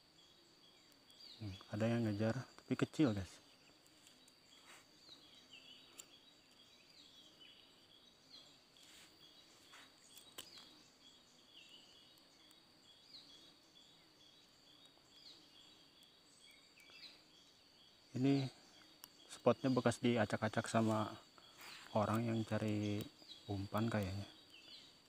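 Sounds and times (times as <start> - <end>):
bird chirping: 0.0 - 25.0
high insect buzz: 0.0 - 25.0.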